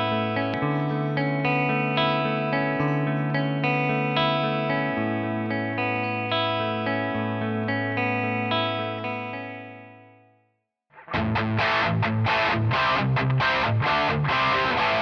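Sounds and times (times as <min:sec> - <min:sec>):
electric guitar chords: 0:00.0 - 0:10.3, 0:11.0 - 0:15.0.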